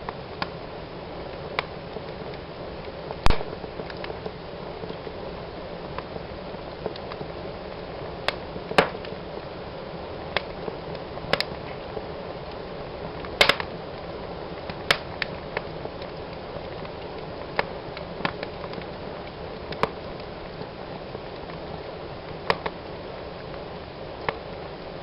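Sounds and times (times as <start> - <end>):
fire crackling in a fireplace: 0.0 - 25.0.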